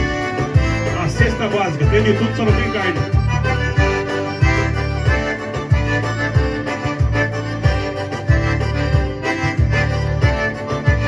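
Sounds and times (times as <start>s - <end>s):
accordion playing chords: 0.0s - 11.0s
bass notes on steady beat: 0.0s - 11.0s.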